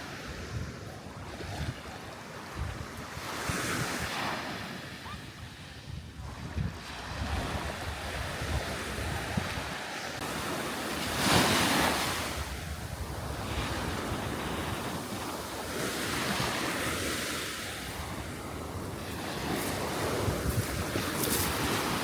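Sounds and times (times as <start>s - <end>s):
waves breaking on beach: 0.0s - 22.0s
wind buffeting microphone: 0.0s - 22.0s.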